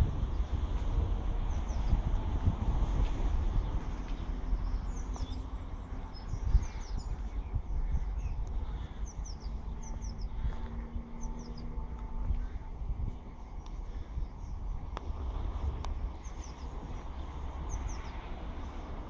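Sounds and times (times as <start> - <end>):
low outdoor rumble: 0.0 - 19.0
small birds chirping: 1.4 - 19.0.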